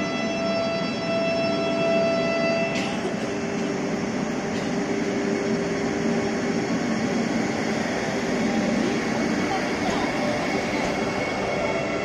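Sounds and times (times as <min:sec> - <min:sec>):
train wheels rumbling: 0:02.0 - 0:12.0.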